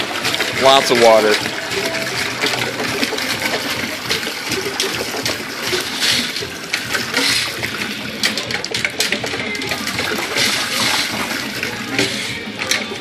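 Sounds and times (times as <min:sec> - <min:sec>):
water pouring into plastic bin: 0:00.0 - 0:13.0.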